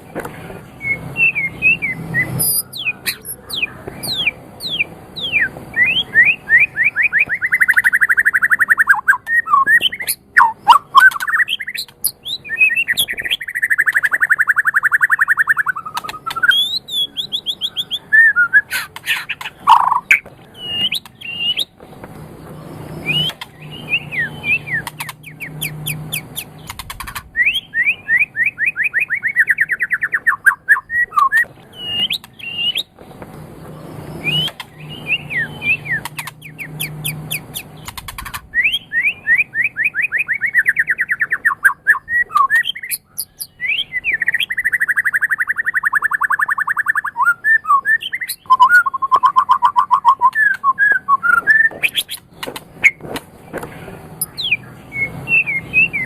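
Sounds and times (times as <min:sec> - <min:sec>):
songbird singing varied song: 0:00.0 - 0:53.0, 0:53.6 - 0:56.0.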